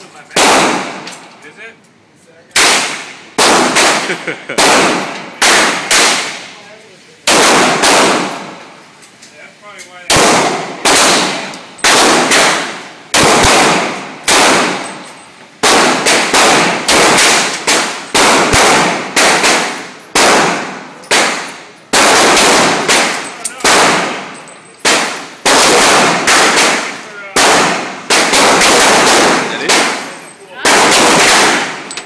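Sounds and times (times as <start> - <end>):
gunshots with echo: 0.3 - 1.1, 2.6 - 6.5, 7.3 - 8.7, 10.1 - 15.0, 15.6 - 31.9.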